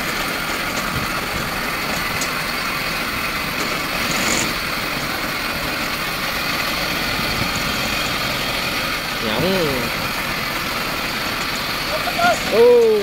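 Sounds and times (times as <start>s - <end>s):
harvester engine running: 0.0s - 13.0s.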